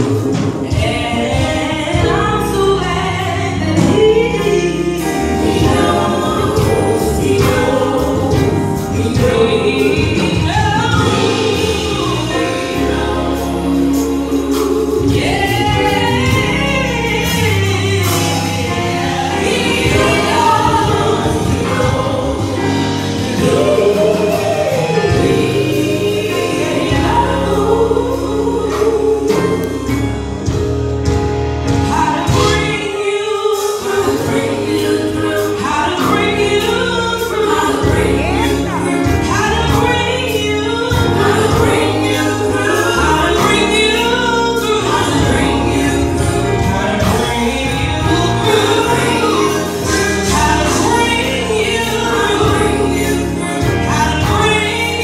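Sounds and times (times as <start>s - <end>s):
female vocal group singing gospel: 0.0s - 55.0s
instrumental accompaniment: 0.0s - 55.0s.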